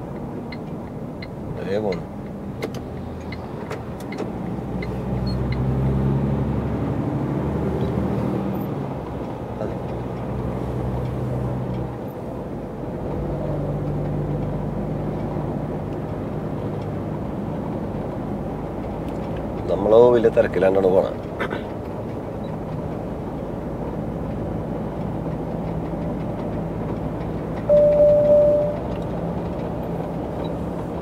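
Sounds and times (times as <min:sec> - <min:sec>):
road noise: 0:00.0 - 0:31.0
truck engine drone: 0:00.0 - 0:31.0.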